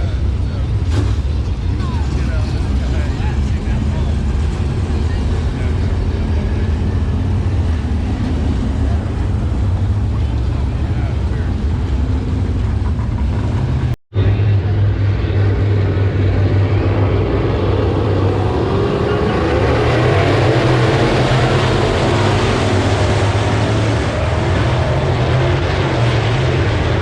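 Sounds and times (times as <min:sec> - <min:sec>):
race car engines droning: 0:00.0 - 0:27.0.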